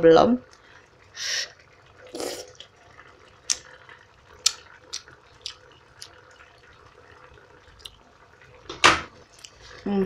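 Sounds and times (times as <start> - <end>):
faint steady hum: 0.0 - 10.0
food simmering in a frying pan: 0.0 - 10.0.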